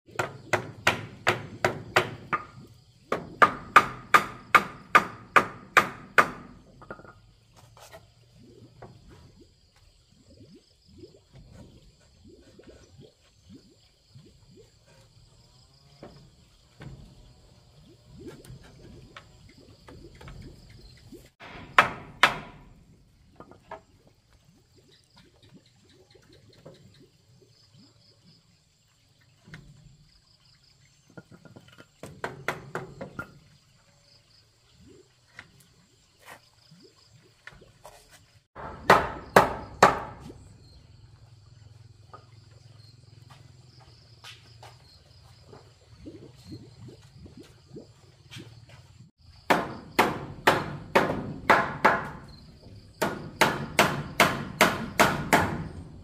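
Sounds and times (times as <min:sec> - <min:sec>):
insects droning: 0:00.1 - 0:56.0.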